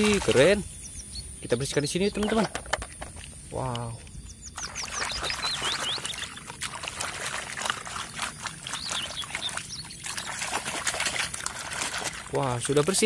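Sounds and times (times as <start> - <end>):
running water: 0.0 - 0.6, 1.8 - 13.0
water splashing and sloshing: 0.0 - 0.6, 2.2 - 13.0.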